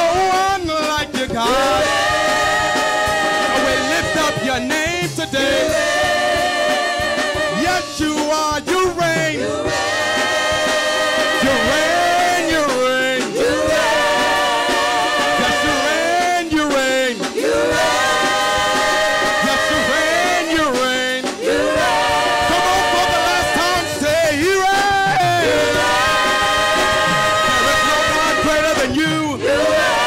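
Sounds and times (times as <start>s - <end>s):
choir singing worship song: 0.0s - 30.0s
hand drums: 0.0s - 30.0s.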